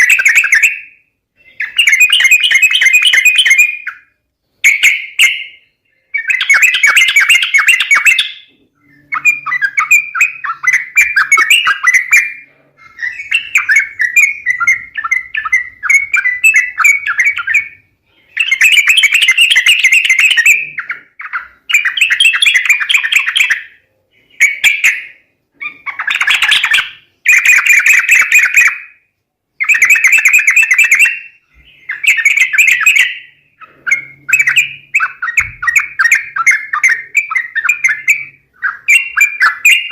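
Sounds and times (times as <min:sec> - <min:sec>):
bulbul bubbly chattering calls: 0:01.5 - 0:04.0, 0:04.6 - 0:23.7, 0:24.4 - 0:28.8, 0:29.6 - 0:39.9.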